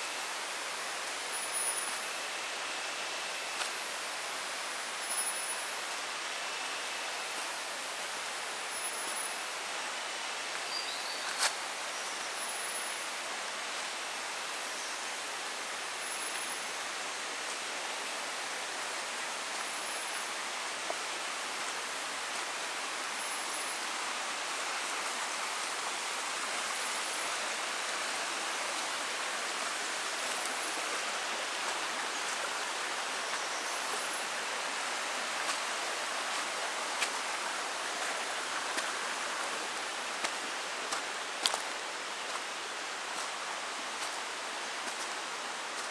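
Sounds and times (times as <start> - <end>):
forest ambience rushing: 0.0 - 45.9.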